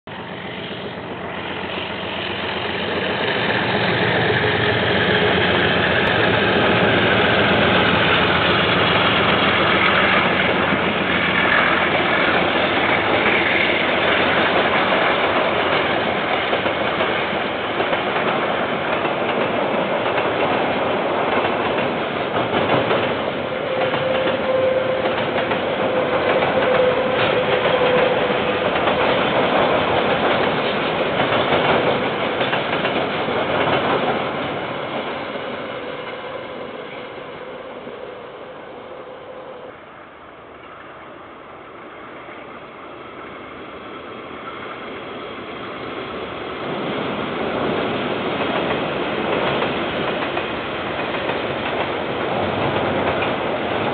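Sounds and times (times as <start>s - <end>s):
diesel train rumbling and clattering: 0.1s - 38.8s, 40.4s - 53.9s.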